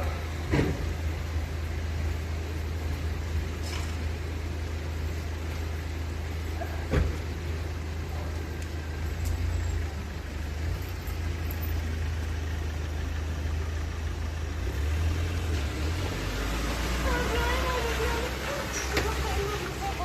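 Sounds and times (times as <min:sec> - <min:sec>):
rain: 0:00.0 - 0:20.0.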